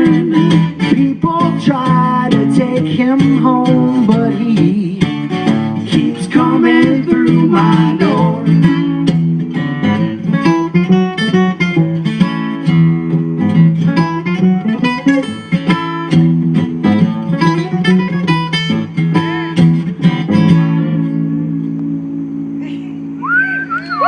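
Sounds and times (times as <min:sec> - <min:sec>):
acoustic guitar strummed and picked: 0:00.0 - 0:24.0.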